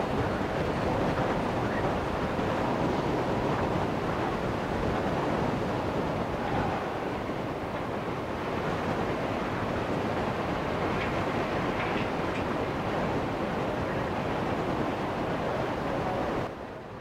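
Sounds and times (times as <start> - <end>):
faint rail yard rumble: 0.0 - 17.0
wind roar on microphone: 0.0 - 17.0.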